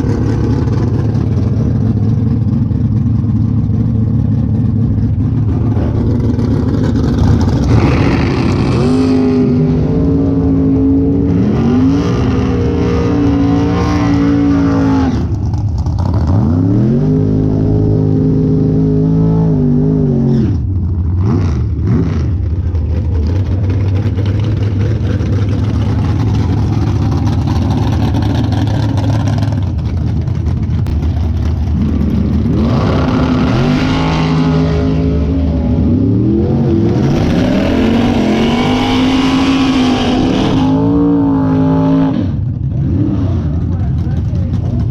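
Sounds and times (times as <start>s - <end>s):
racing car engines accelerating: 0.0s - 44.9s.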